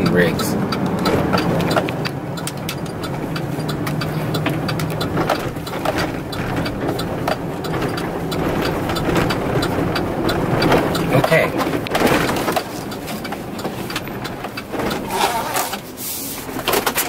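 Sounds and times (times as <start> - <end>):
sharp clicks and rattles: 0.0 - 17.0
truck engine hum from cab: 0.0 - 17.0.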